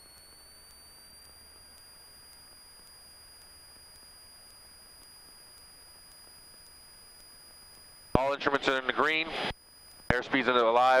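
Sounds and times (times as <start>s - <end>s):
high-pitched electrical whine: 0.0s - 11.0s
low electrical hum: 0.0s - 11.0s.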